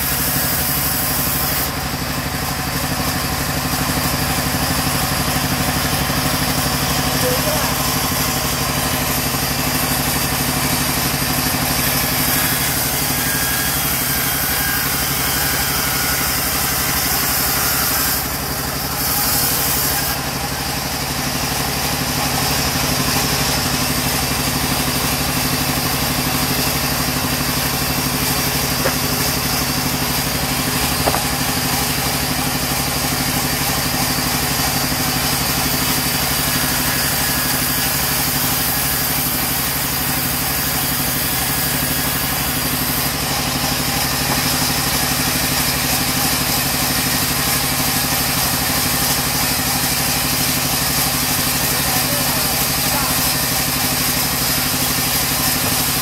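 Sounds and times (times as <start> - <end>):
band saw cutting boards: 0.0 - 56.0.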